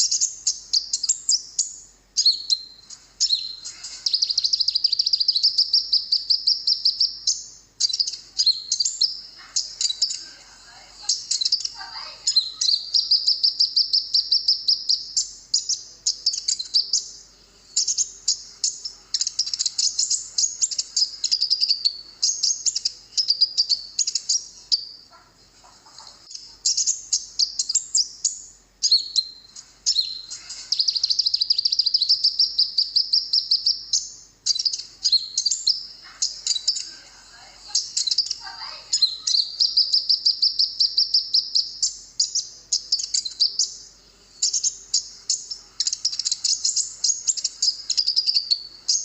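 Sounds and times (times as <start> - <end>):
sunbird twittering song: 0.0 - 25.3, 26.2 - 49.0.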